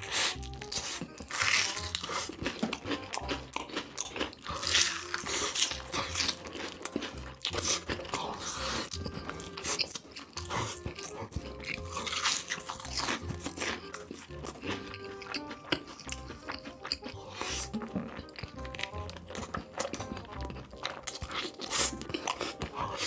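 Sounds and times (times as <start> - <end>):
crunchy chewing of food: 0.0 - 23.0.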